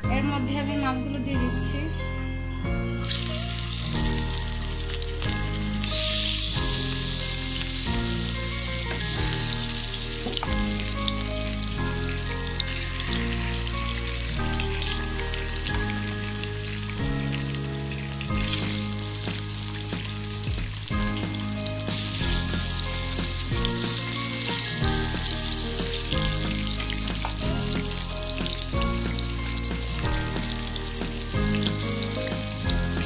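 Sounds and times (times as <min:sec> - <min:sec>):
fish sizzling in hot oil: 0:03.0 - 0:33.0.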